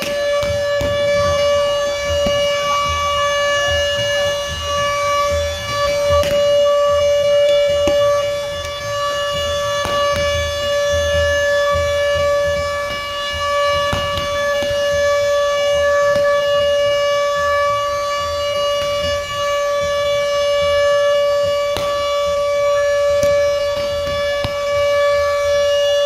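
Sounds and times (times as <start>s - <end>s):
large crowd noise: 0.0s - 26.0s.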